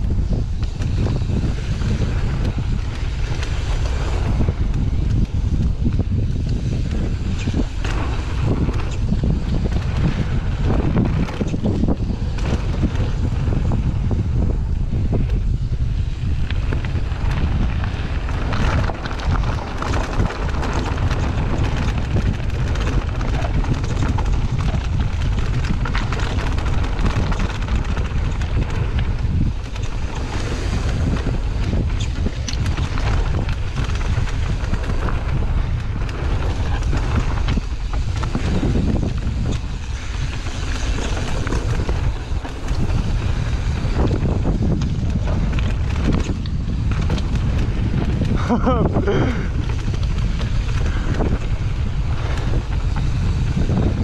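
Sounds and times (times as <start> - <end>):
bike rattling: 0.0 - 54.0
wind buffeting microphone: 0.0 - 54.0.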